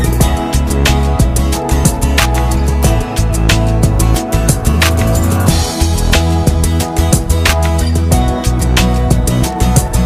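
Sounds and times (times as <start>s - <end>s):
drums and bass music: 0.0s - 10.0s.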